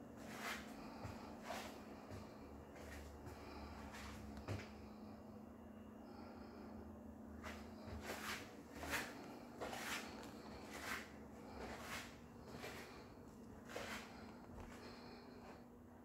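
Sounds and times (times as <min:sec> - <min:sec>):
soft footsteps on tile and carpet: 0:00.0 - 0:05.0, 0:07.3 - 0:15.6
faint steady hum: 0:00.0 - 0:16.0.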